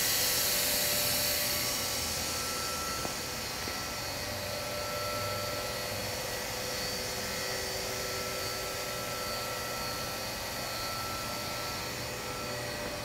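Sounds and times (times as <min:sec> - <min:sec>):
machine whir with high tones: 0:00.0 - 0:13.0.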